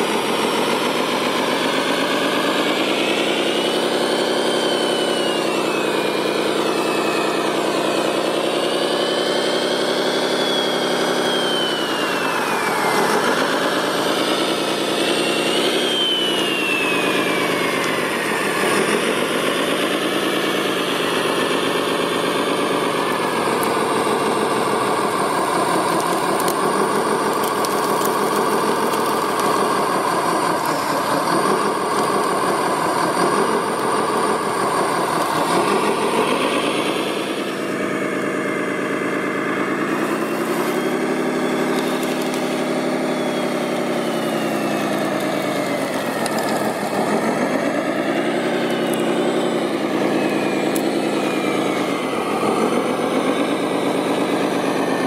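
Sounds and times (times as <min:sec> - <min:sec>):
high whine of motors: 0:00.0 - 0:55.0
model vehicle engine hum: 0:00.0 - 0:55.0.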